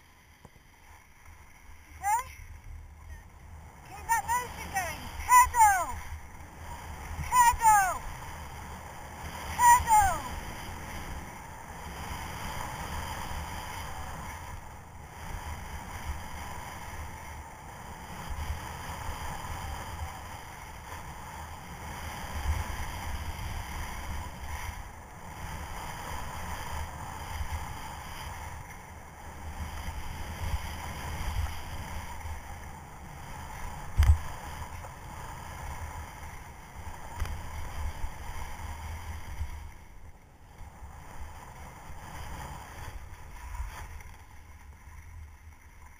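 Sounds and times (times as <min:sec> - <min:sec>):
skis scraping over snow: 0:00.0 - 0:45.9.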